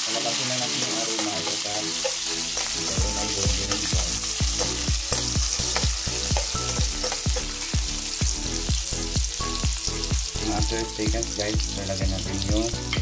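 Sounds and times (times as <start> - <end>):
garlic sizzling in oil: 0.0 - 13.0
background music with beat: 0.8 - 13.0.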